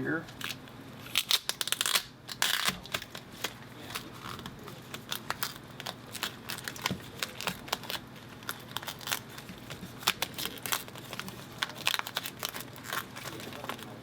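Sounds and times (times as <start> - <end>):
material peeling with crinkling clicks: 0.3 - 14.0.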